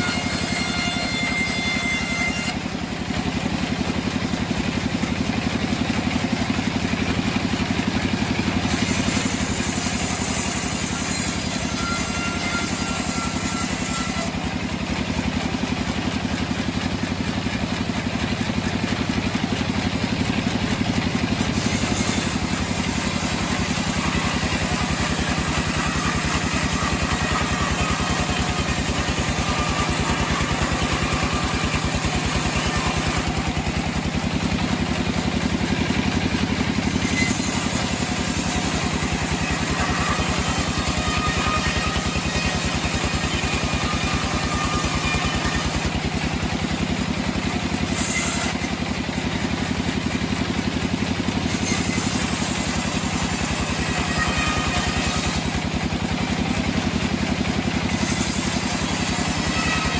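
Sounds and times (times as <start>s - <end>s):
band-saw blade cutting wood: 0.0s - 59.9s
sawmill motor droning: 0.0s - 59.9s.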